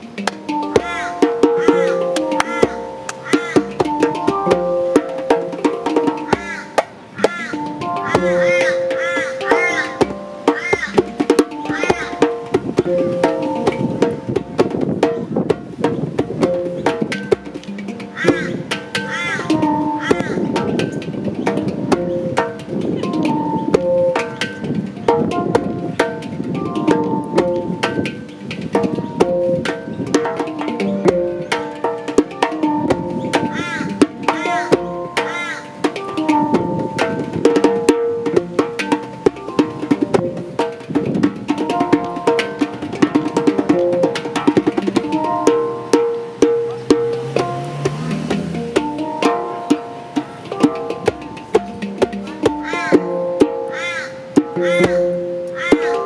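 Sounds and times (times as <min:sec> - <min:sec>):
djembe hand drumming: 0:00.0 - 0:56.0
handpan melodic notes: 0:00.0 - 0:56.0.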